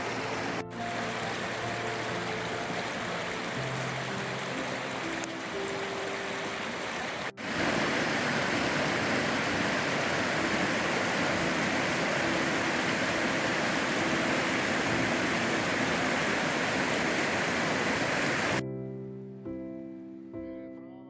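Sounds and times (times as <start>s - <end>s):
fast-flowing water rushing: 0.0s - 18.6s.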